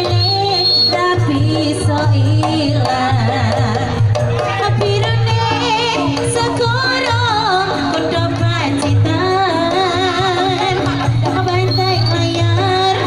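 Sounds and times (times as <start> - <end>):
hand drums: 0.0 - 13.0.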